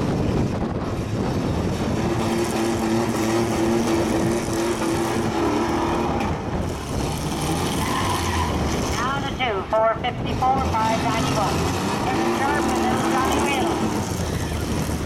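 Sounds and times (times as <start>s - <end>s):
truck engines revving loudly: 0.0s - 15.0s.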